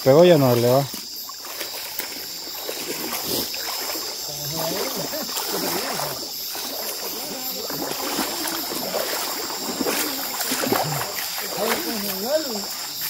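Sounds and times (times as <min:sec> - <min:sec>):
night insects chorus: 0:00.0 - 0:13.0
river water splashing: 0:00.0 - 0:13.0
voices murmuring: 0:00.0 - 0:13.0.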